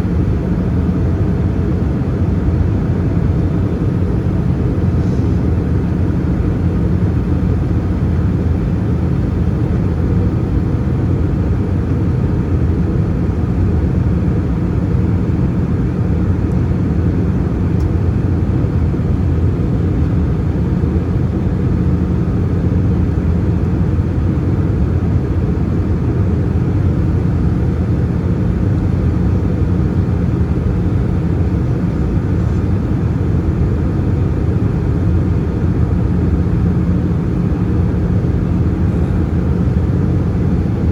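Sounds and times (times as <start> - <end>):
aircraft engines rumbling: 0.0 - 40.9.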